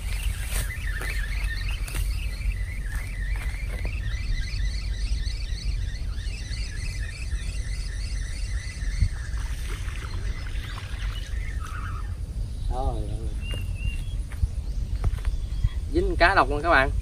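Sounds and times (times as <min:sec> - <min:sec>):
rapid high chirping: 0:00.0 - 0:17.0
steady low rumble: 0:00.0 - 0:17.0.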